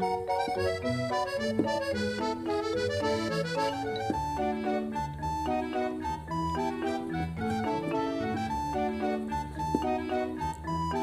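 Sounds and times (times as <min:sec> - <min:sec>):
gentle keyboard music: 0:00.0 - 0:11.0.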